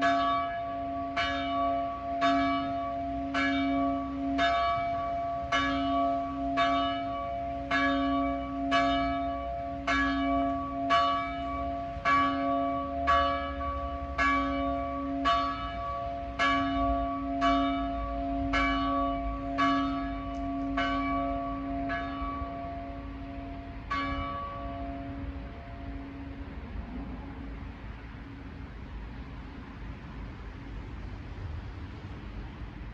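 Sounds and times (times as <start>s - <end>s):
large church bell ringing: 0.0s - 27.8s.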